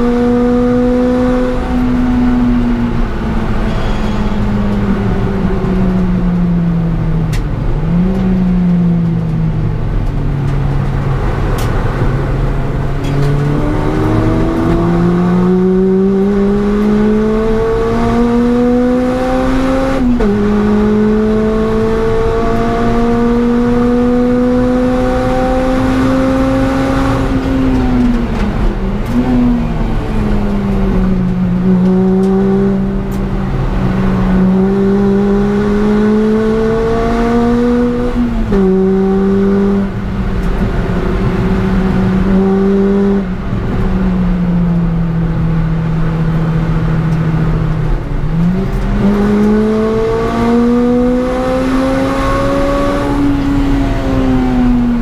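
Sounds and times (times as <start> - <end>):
car engine revving in cabin: 0.0 - 3.6, 4.5 - 55.0
tyre and road noise: 0.0 - 55.0.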